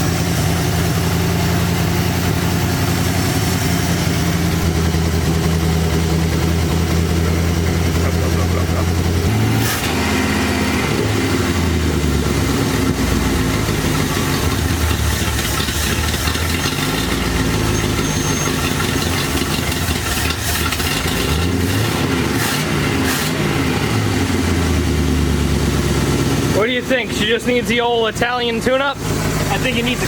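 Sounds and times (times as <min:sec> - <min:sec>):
engine idling unevenly: 0:00.0 - 0:30.0.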